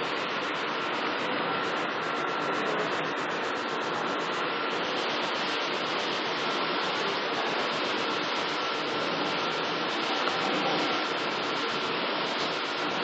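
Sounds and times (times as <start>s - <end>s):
vending machine pump whine: 0.0s - 13.0s.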